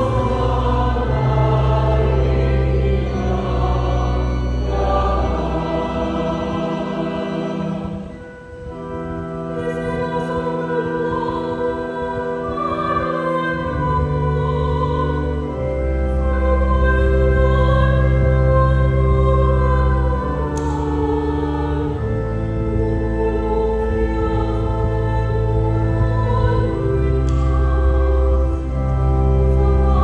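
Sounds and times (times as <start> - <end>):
low instrumental accompaniment: 0.0 - 30.0
woman singing liturgical music: 0.0 - 30.0.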